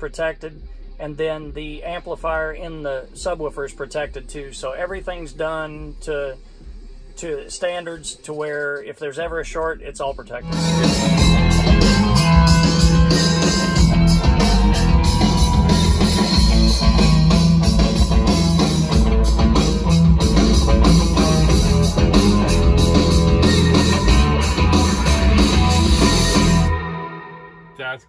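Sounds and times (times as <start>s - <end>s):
rock music on car stereo: 0.0s - 27.9s.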